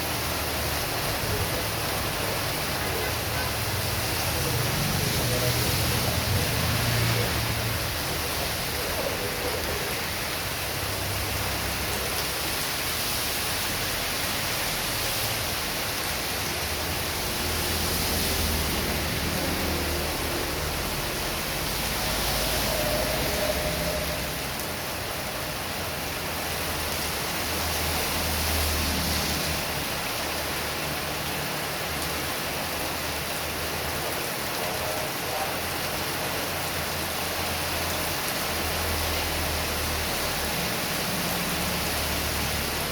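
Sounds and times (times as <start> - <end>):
heavy rain in strong wind: 0.0 - 42.9.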